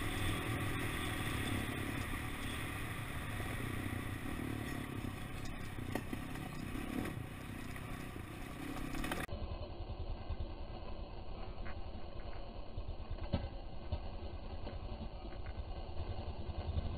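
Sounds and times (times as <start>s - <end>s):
motorcycle engine at low speed: 0.0s - 16.9s.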